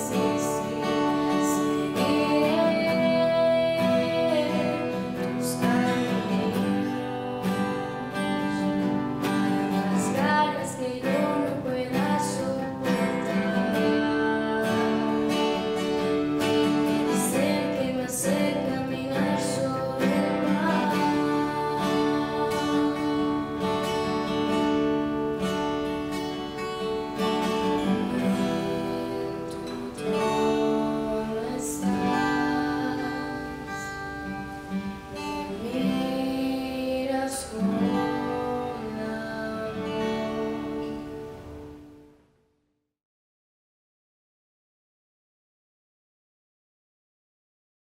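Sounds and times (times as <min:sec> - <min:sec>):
woman singing: 0:00.0 - 0:25.2, 0:26.6 - 0:41.3
strummed acoustic guitar: 0:00.0 - 0:42.2.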